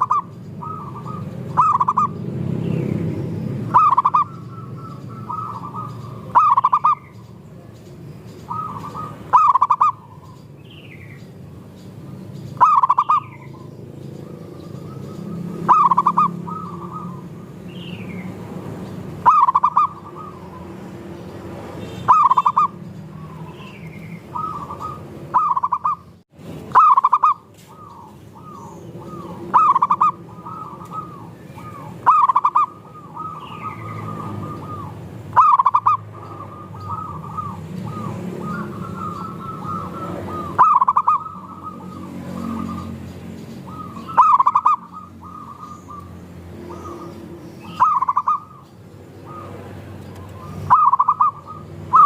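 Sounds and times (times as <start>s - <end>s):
doves cooing: 0.0s - 7.6s, 8.4s - 10.5s, 11.5s - 21.1s, 22.0s - 52.0s.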